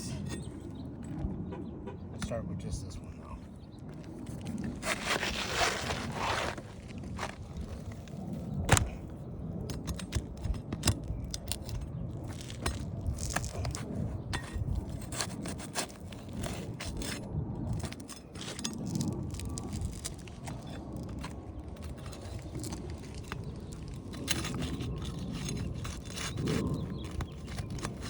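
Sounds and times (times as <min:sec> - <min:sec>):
shingle scraping and snapping: 0:03.5 - 0:28.0.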